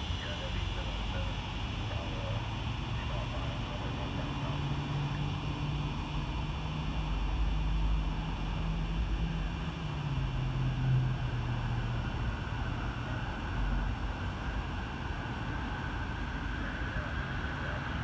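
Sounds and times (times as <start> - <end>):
distant jet engines droning: 0.0 - 18.0.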